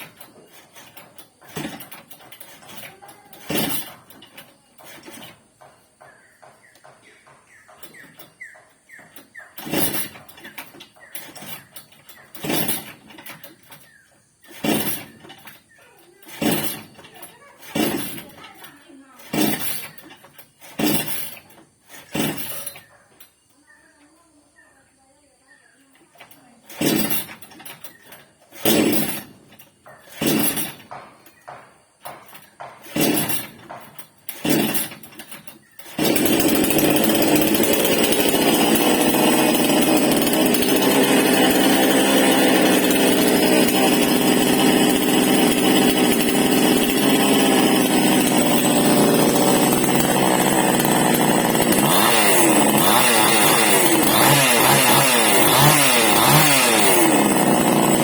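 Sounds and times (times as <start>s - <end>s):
starter cord yanked: 0.0s - 23.6s, 26.0s - 58.0s
chainsaw engine running: 0.0s - 23.7s, 25.5s - 58.0s.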